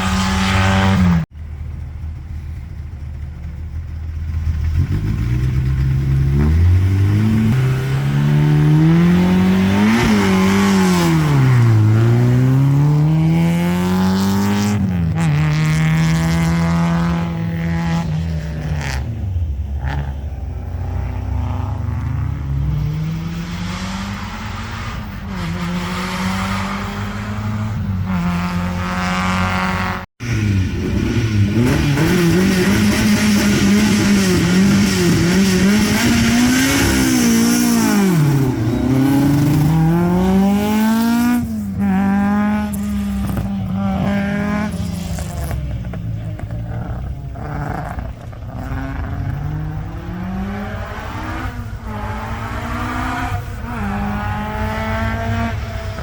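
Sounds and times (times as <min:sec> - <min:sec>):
rally car engines revving: 0:00.0 - 0:01.8, 0:03.8 - 0:56.0.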